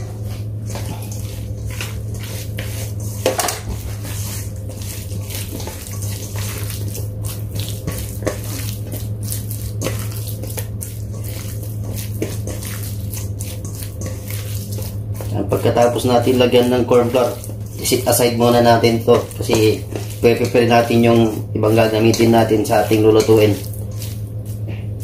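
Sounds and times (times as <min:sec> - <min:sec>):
scraping against metal bowl: 0:00.0 - 0:25.0
steady low hum: 0:00.0 - 0:25.0
wet squishing by hand: 0:00.1 - 0:25.0.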